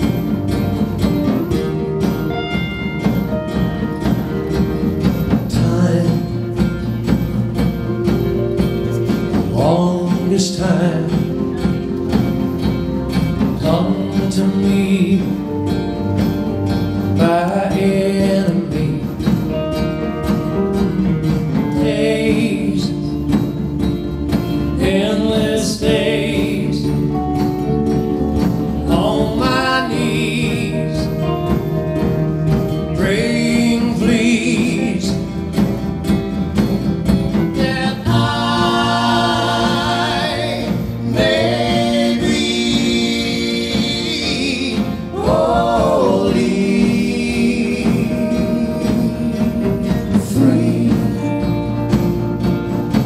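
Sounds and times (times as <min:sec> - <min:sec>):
country-rock band playing live: 0:00.0 - 0:53.0.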